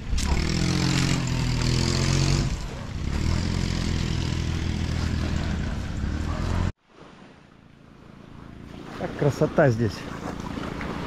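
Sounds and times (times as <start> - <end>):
engine running steadily: 0.0 - 6.7, 7.7 - 11.0.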